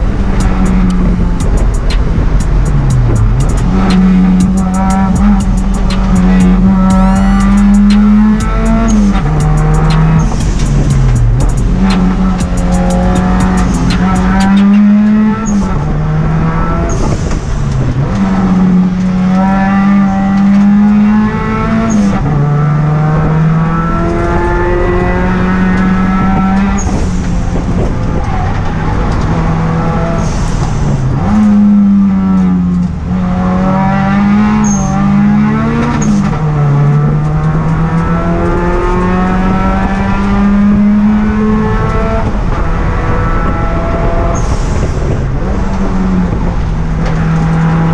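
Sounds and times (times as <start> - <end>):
race car engine revving: 0.0 - 47.9.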